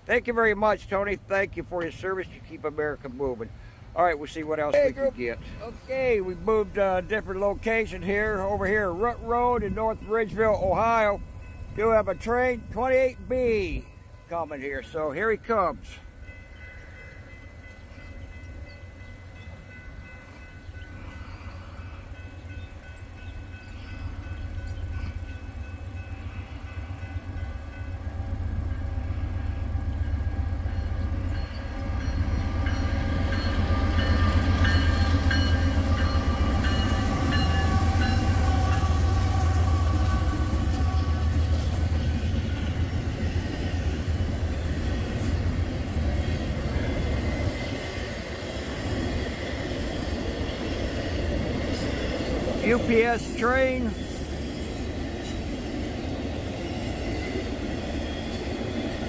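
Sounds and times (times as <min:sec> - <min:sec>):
freight train rumble: 0:00.0 - 0:59.0
higher rail car noise: 0:00.0 - 0:59.0.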